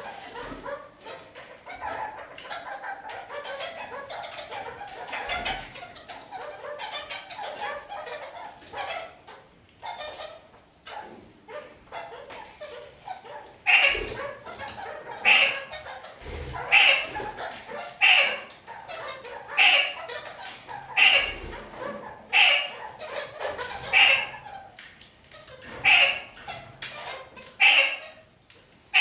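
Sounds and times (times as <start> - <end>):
parakeet sharp calls: 0.0 - 28.3
parakeet soft chattering: 0.0 - 28.3.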